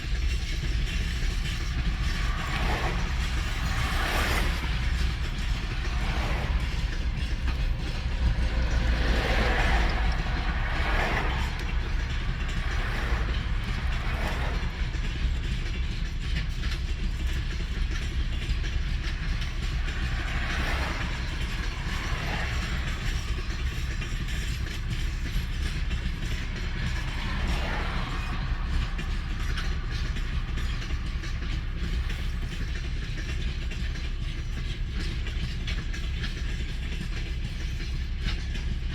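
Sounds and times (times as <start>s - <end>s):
freight train wheels rumbling on rails: 0.0s - 38.9s
train clatter: 0.0s - 38.9s.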